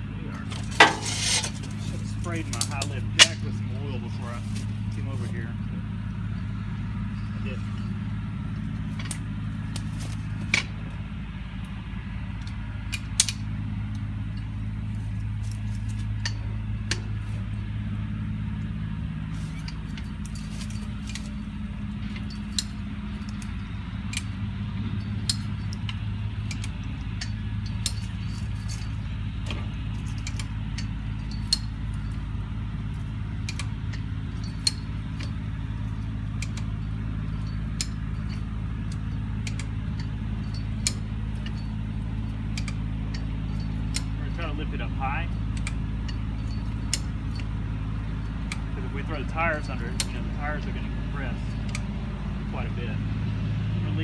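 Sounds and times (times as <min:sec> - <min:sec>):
low mechanical hum: 0:00.0 - 0:54.0
jack ratcheting metal clicks: 0:00.4 - 0:03.7, 0:07.2 - 0:11.0, 0:11.6 - 0:17.7, 0:19.3 - 0:52.0.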